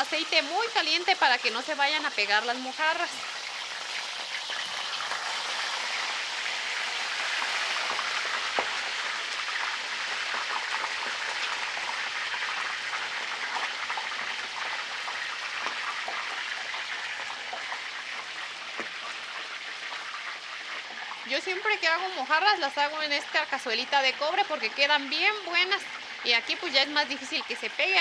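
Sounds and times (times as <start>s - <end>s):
fish deep-frying in hot oil: 0.0s - 28.0s.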